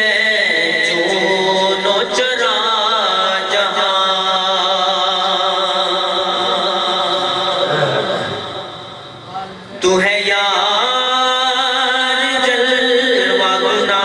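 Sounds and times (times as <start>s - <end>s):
man chanting devotional poem: 0.0s - 14.0s.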